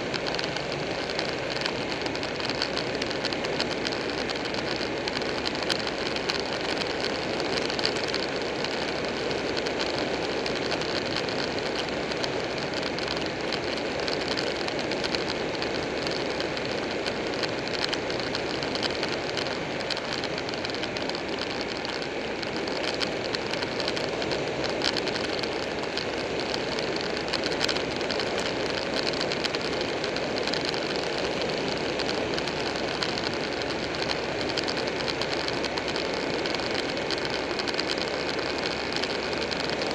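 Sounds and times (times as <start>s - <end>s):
motorcycle engine running: 0.0s - 39.9s
wind rush and road noise: 0.0s - 39.9s.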